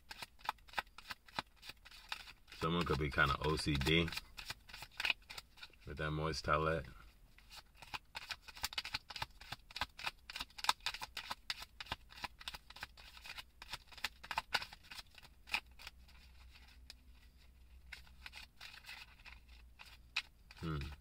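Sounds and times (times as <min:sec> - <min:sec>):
cards being shuffled: 0:00.1 - 0:05.8, 0:07.4 - 0:21.0.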